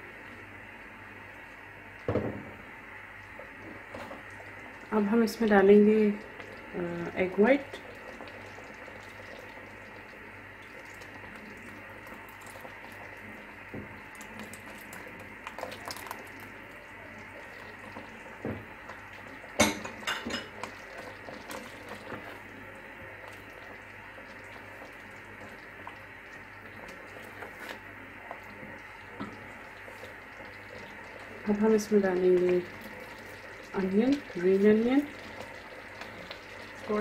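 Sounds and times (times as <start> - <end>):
soup simmering and bubbling: 0.0 - 37.0.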